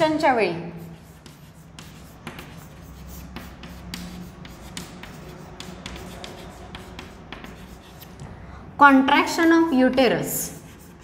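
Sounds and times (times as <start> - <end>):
writing on a board: 0.7 - 8.3, 9.2 - 11.0.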